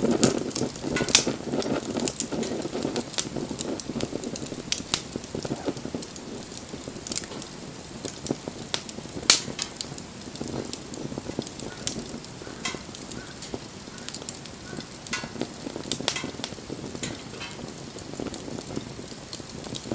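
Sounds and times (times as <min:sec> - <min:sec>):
wood fire crackling and popping: 0:00.0 - 0:19.9.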